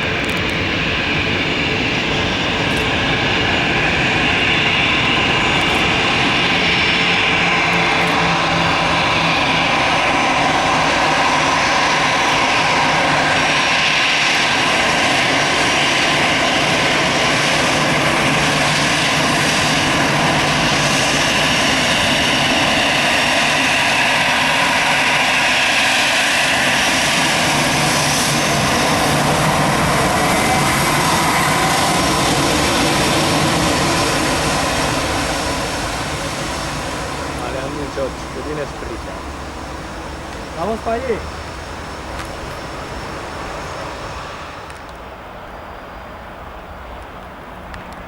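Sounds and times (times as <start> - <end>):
jet engines running: 0.0 - 48.0.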